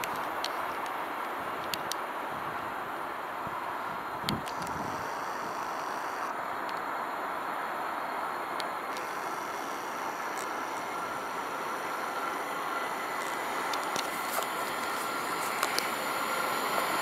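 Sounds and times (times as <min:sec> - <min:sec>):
distant train rushing: 0:00.0 - 0:17.0
faint high steady tone: 0:03.1 - 0:17.0.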